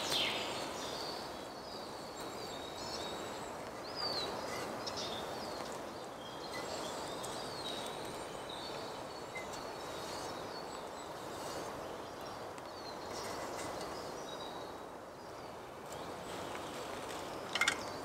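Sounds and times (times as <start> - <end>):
rushing background hiss: 0.0 - 18.0
small birds chirping: 0.0 - 18.0.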